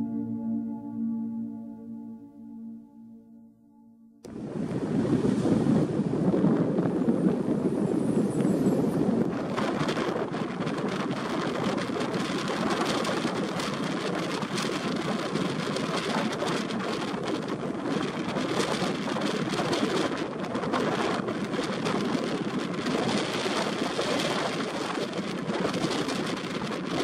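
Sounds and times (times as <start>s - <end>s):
vehicle road noise rumble: 4.3s - 27.0s
wind buffeting microphone: 4.3s - 27.0s.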